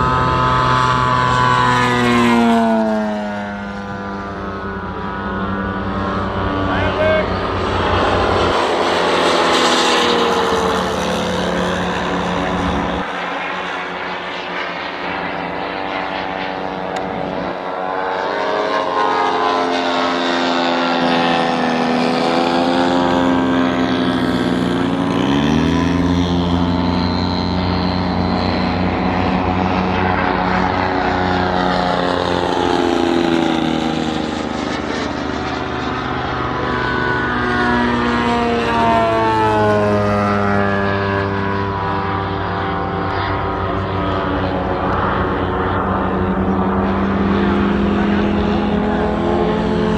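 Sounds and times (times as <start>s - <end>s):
model airplane engine running: 0.0s - 49.9s.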